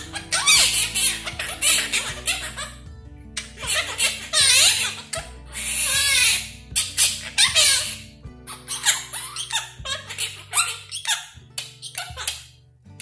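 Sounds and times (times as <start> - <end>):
parrots chattering: 0.0 - 2.8, 3.4 - 12.6
background music: 0.0 - 13.0.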